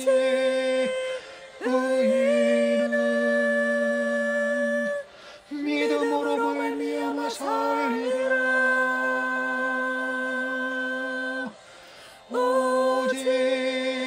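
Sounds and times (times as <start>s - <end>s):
person singing long held notes: 0.0s - 14.0s.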